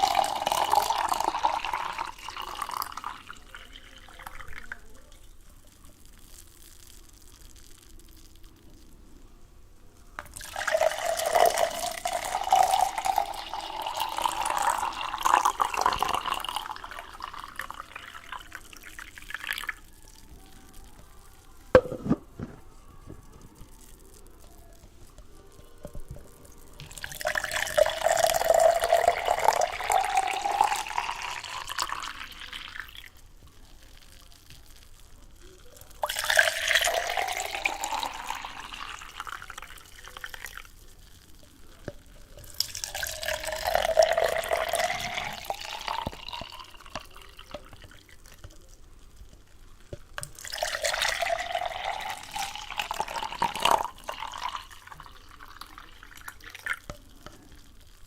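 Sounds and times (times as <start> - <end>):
water pouring into container: 0.0 - 8.8, 10.2 - 21.0, 25.6 - 49.4, 50.0 - 58.0.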